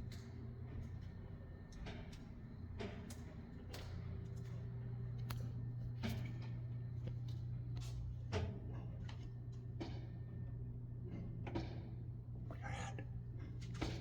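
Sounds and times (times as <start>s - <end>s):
knocks and ticks inside walls: 0.0s - 14.0s
steady low hum: 0.0s - 14.0s.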